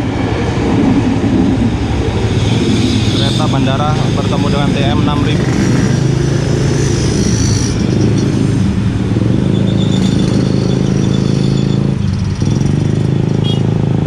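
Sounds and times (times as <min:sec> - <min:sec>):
electric train running past: 0:00.0 - 0:12.4
motorcycle engines idling and pulling off: 0:00.0 - 0:14.0.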